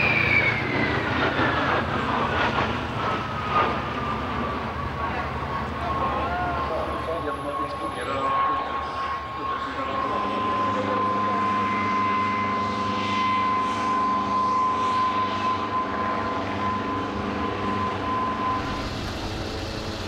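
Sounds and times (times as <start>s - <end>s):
jet engine roar and whine: 0.0s - 20.0s.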